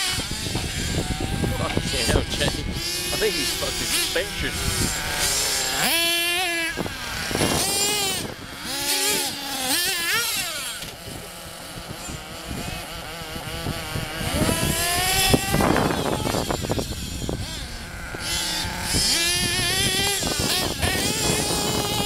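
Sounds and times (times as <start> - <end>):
small nitro engines revving: 0.0 - 22.0.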